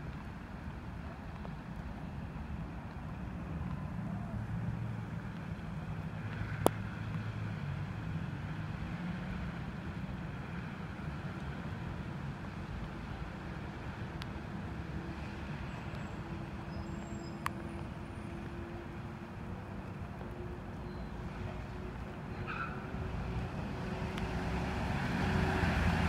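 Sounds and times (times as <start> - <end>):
traffic on wet streets: 0.0 - 26.0.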